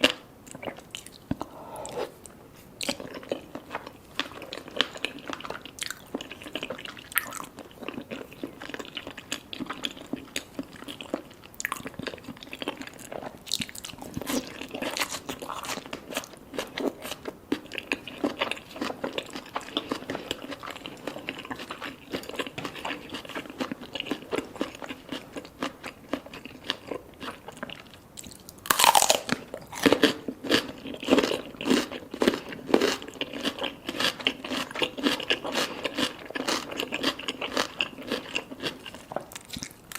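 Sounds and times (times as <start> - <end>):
chewing with crisp crunches: 0.0 - 39.9.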